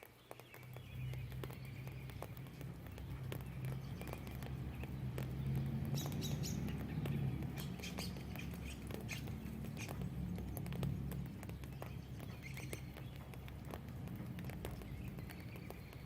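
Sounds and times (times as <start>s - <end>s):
raindrops dripping and pattering: 0.0s - 16.0s.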